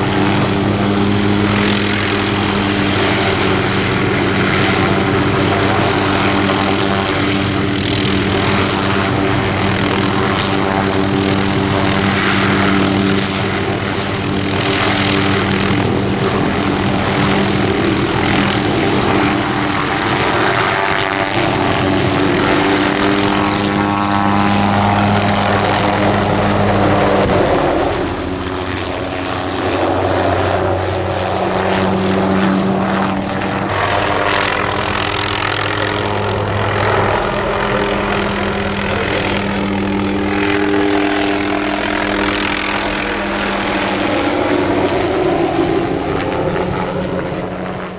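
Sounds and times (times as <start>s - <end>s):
helicopter engine and rotor hum: 0.0s - 47.9s
rotor wash and wind rushing: 0.0s - 47.9s.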